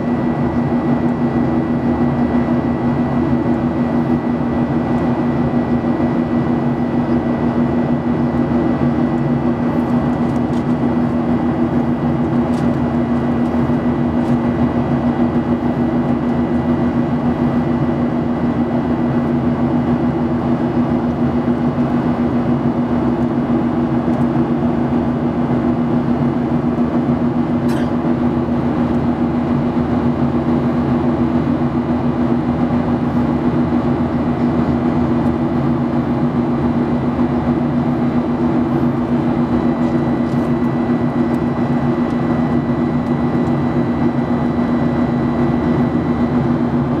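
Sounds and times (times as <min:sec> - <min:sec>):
airliner cabin engine drone: 0:00.0 - 0:47.0.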